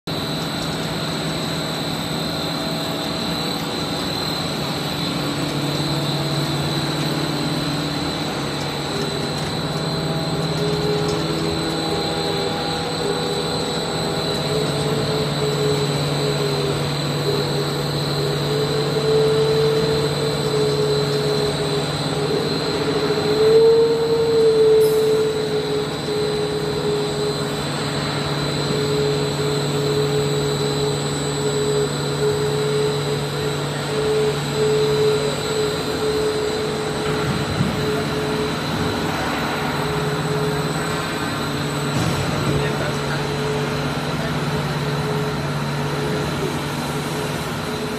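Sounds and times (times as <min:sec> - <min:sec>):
machine hum with held tones: 0:00.0 - 0:47.9
faint high whine: 0:00.1 - 0:47.9.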